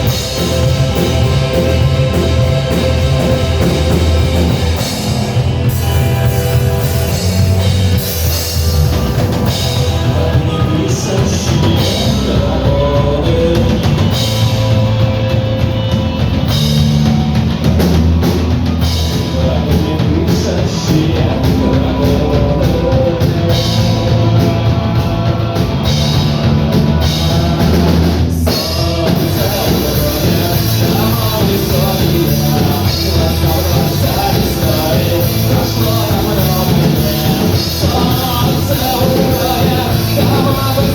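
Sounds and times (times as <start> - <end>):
rock band with singing: 0.0 - 40.9.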